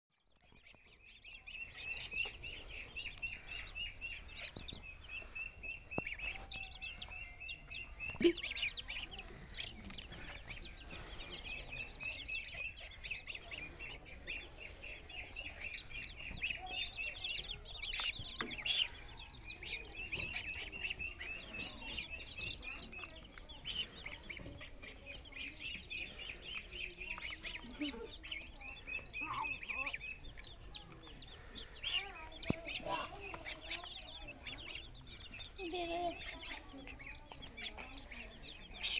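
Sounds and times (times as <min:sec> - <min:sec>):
chicks and ducklings peeping: 0:00.2 - 0:38.9.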